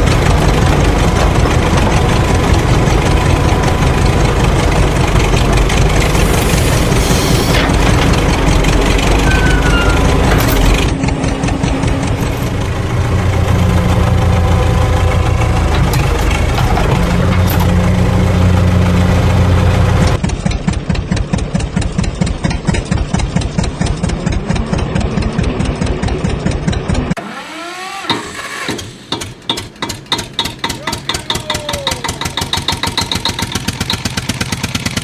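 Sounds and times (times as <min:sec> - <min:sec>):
engine idling with fast chugging: 0:00.0 - 0:27.2, 0:29.1 - 0:35.0
engine running: 0:00.0 - 0:35.0.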